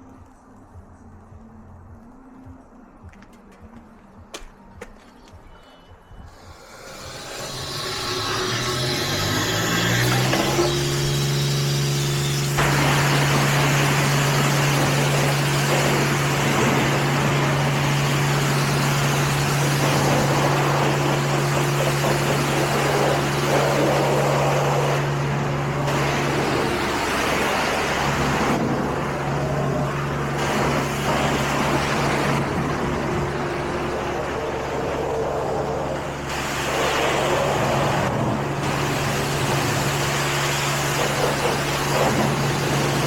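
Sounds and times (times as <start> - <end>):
low machine hum: 5.4 - 43.0
car wash spray hissing: 6.3 - 43.0.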